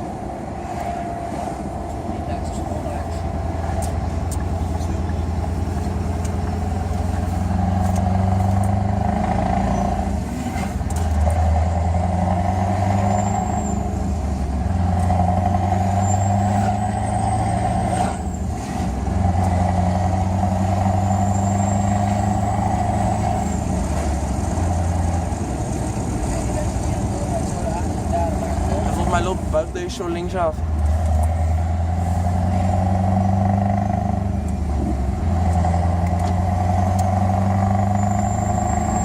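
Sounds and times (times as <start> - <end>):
deep diesel engine running: 0.0 - 39.0.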